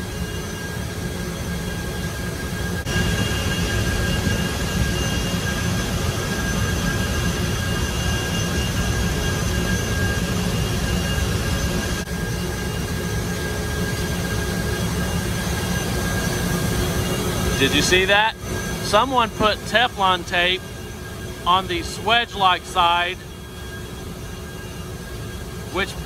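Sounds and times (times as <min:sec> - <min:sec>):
machinery roar: 0:00.0 - 0:26.0
thin whining tones: 0:00.0 - 0:26.0.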